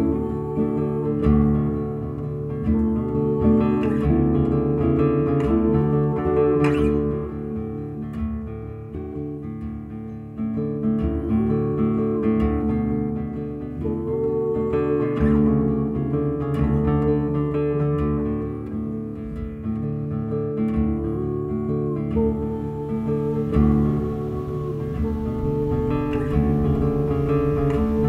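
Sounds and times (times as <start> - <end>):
acoustic guitar instrumental: 0.0 - 28.0.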